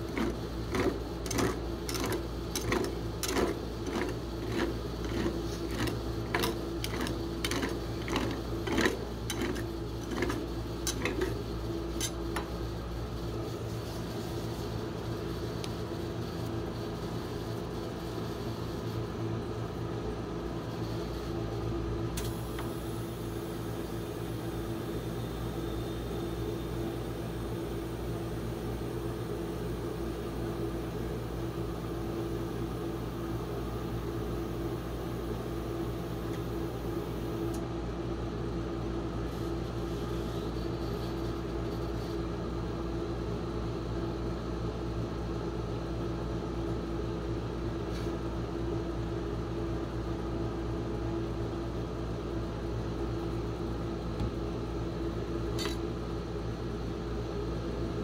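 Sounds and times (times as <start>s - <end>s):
cooling unit hum: 0.0s - 58.0s.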